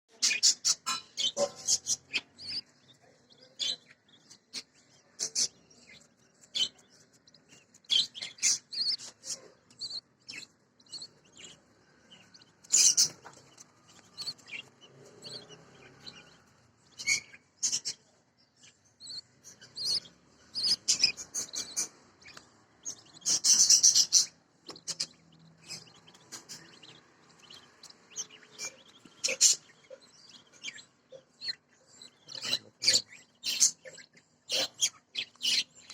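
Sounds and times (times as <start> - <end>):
budgerigars chirping: 0.1 - 35.9.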